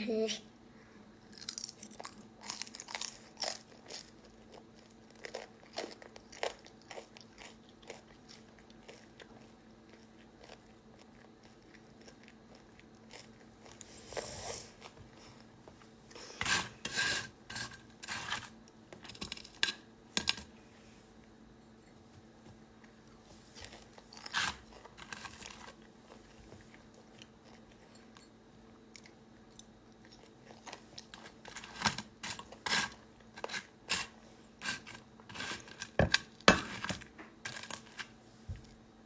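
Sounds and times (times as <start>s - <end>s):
person chewing and crunching food: 1.2s - 16.8s, 22.6s - 38.8s.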